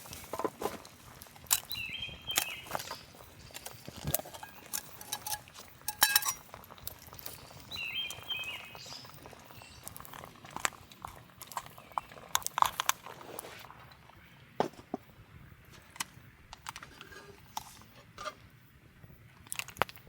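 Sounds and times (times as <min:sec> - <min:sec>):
camp gear clicks and clinks: 0:00.0 - 0:15.0, 0:15.7 - 0:18.3, 0:19.4 - 0:20.0.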